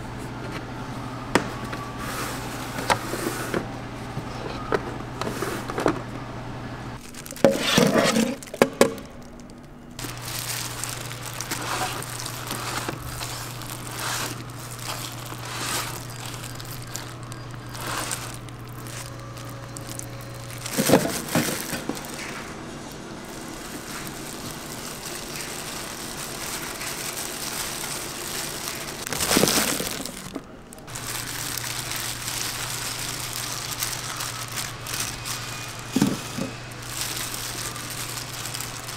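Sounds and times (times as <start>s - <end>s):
steady low hum: 0.0s - 38.9s
plastic gloves crinkling: 7.0s - 38.9s.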